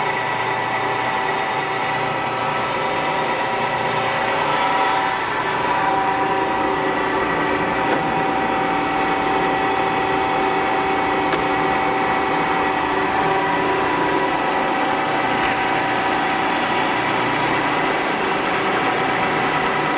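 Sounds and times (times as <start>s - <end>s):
lathe running with whine: 0.0s - 19.9s.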